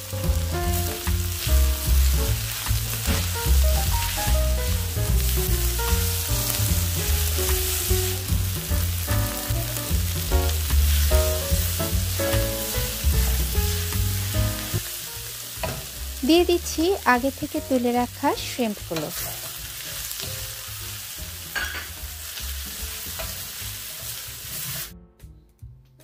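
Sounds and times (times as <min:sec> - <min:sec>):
food sizzling in a wok: 0:00.0 - 0:25.0.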